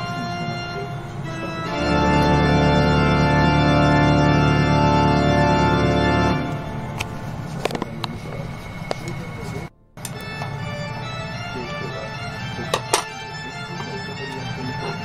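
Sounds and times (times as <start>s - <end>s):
organ sustained chords: 0.0s - 15.0s.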